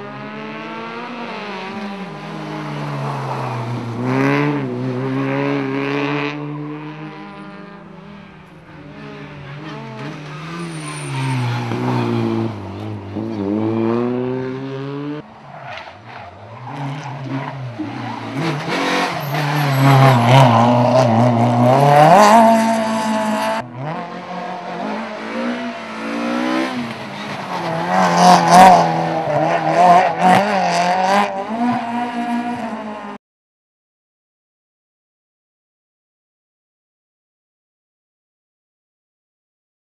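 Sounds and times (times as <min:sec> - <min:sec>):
rally car engines revving: 0:00.0 - 0:33.2.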